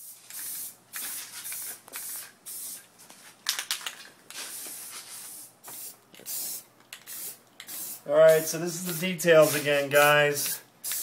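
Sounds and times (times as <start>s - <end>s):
aerosol can spraying: 0.0s - 2.8s, 4.4s - 11.0s.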